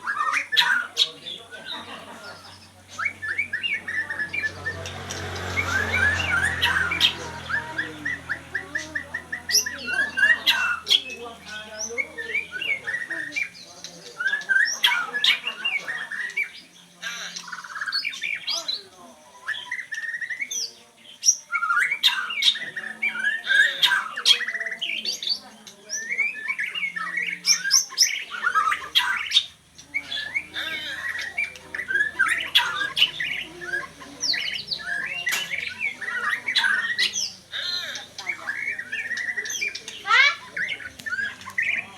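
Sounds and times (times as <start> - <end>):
songbird chirping and squawking: 0.0 - 41.9.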